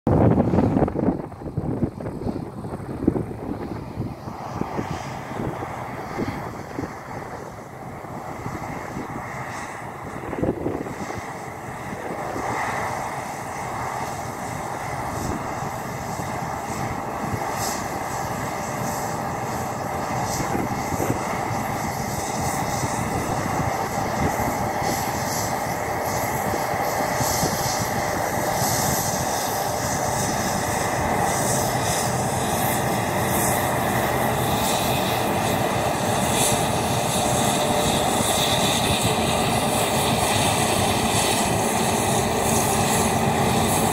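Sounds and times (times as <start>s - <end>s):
combine harvester engine drone: 0.1s - 43.9s.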